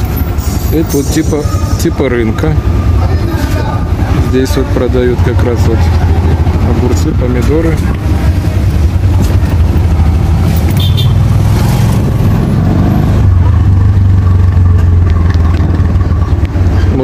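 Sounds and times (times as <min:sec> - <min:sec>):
auto-rickshaw engine droning: 0:00.0 - 0:17.0
road and traffic noise: 0:00.0 - 0:17.0.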